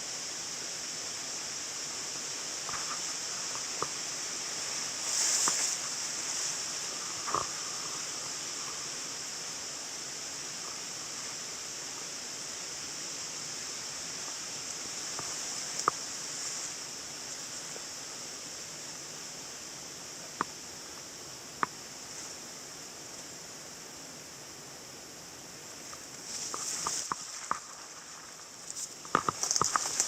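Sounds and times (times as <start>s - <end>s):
constant high hiss: 0.0s - 30.0s.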